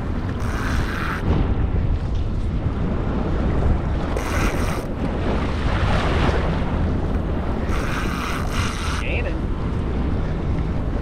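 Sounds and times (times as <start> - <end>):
sea water washing around boat: 0.0 - 11.0
wind buffeting microphone: 0.0 - 11.0.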